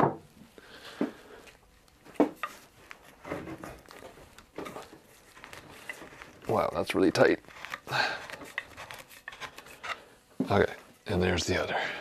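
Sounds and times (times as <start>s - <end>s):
wood rubbing on wood: 0.8s - 10.9s.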